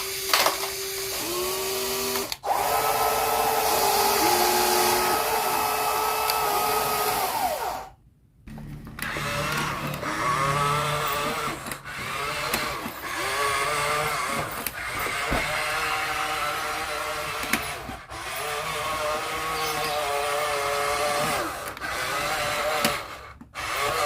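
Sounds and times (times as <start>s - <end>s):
small electric motors whining: 0.0s - 8.0s, 8.9s - 24.0s.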